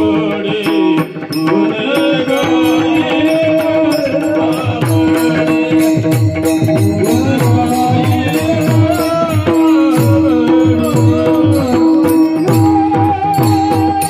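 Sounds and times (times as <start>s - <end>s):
drum beats: 0.0s - 14.0s
jingling cymbal strokes: 0.7s - 14.0s.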